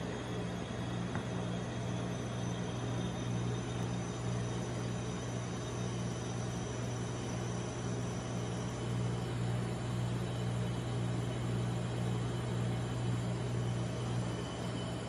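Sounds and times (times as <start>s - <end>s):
compressor low hum: 0.0s - 15.0s.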